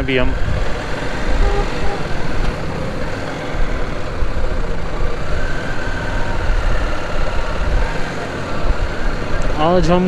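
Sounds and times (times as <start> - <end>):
motorcycle engine rumble: 0.0 - 10.0
traffic: 0.0 - 10.0.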